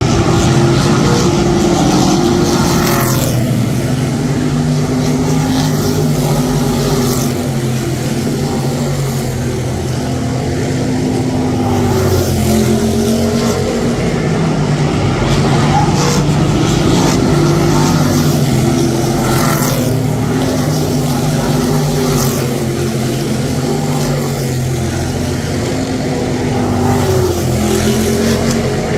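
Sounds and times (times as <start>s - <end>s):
race car engines running: 0.0s - 28.9s.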